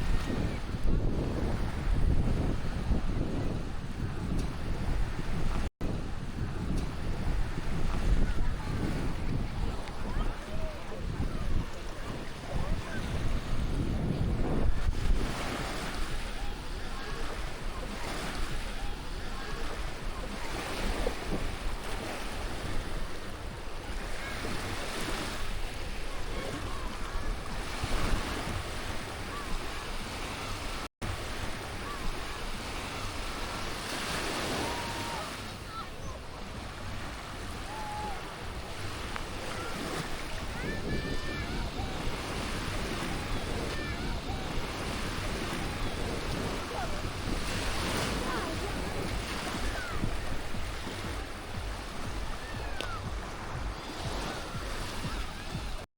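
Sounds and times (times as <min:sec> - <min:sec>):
waves washing up a shore: 0:00.0 - 0:55.9
wind buffeting microphone: 0:00.0 - 0:55.9.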